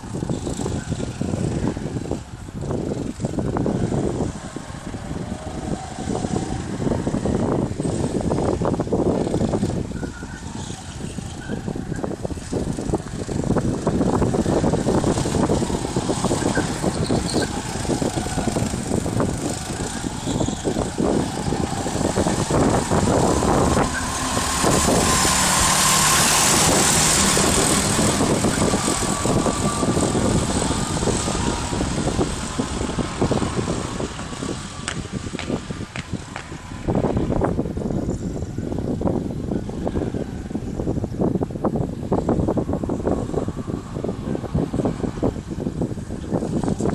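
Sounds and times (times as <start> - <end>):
go-kart engines running: 0.0 - 46.9.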